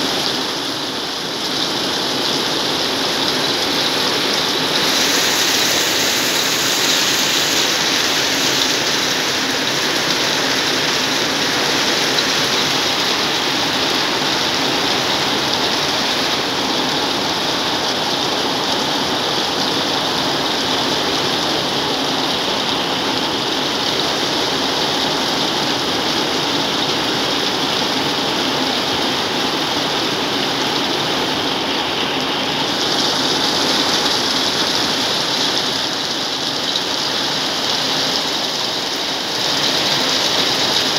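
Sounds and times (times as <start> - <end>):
heavy rain on metal roofing: 0.0 - 40.9.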